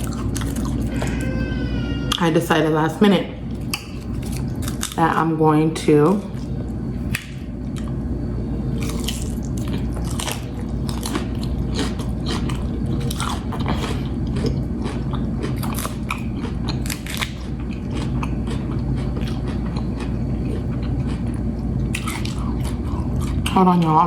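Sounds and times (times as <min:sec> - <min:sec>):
chewing crunchy food: 0:00.0 - 0:01.3, 0:03.5 - 0:05.1, 0:06.2 - 0:08.0, 0:08.6 - 0:24.0
steady low hum: 0:00.0 - 0:24.0.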